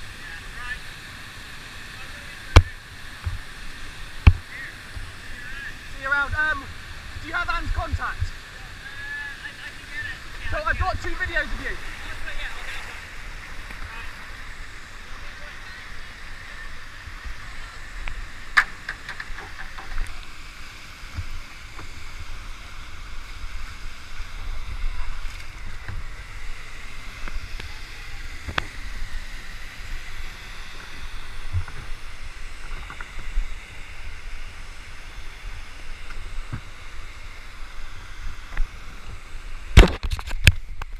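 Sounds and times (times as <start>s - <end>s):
waterfall rushing: 0.0s - 39.8s.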